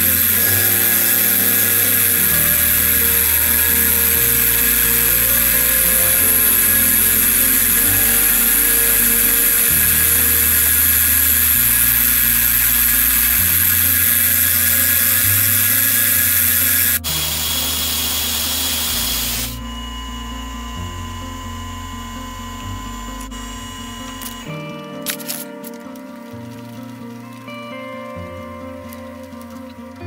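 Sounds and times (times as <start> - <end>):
steady machine hum: 0.0 - 25.0
high-pitched metal cutting noise: 0.0 - 25.5.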